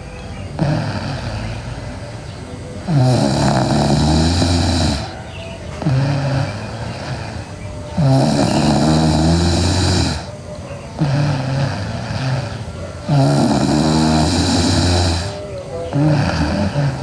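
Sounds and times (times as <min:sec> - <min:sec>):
girl snoring loudly: 0:00.0 - 0:17.0.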